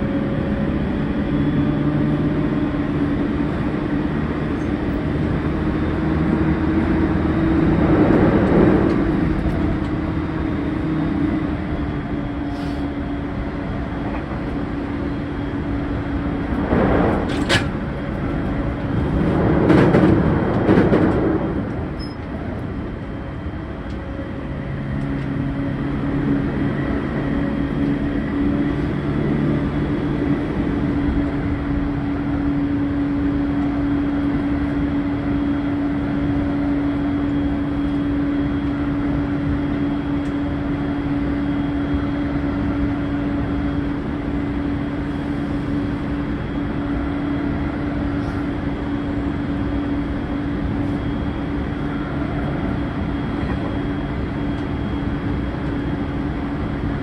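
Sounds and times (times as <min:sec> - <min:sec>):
train traction motor hum: 0:00.0 - 0:57.0
train wheels on rail: 0:00.0 - 0:57.0.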